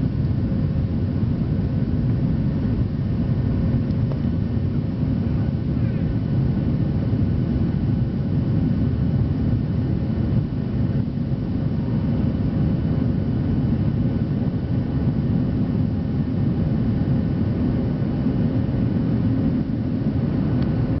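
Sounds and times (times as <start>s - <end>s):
airliner cabin engine rumble: 0.0s - 21.0s
faint steady whine: 0.0s - 21.0s.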